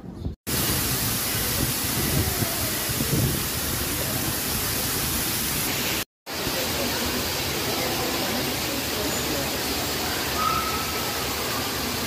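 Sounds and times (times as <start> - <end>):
running water rushing: 0.5 - 12.0.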